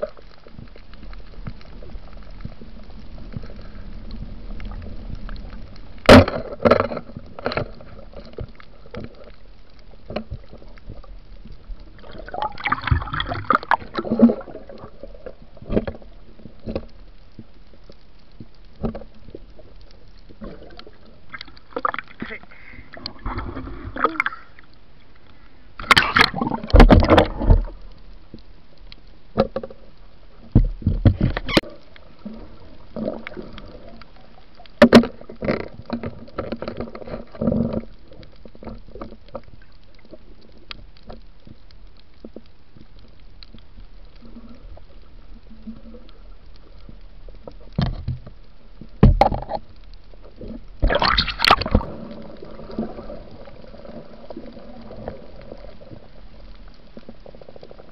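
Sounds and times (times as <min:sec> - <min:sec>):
low steady hiss: 0:00.0 - 0:57.9
underwater gurgling and bubbles: 0:00.0 - 0:57.9.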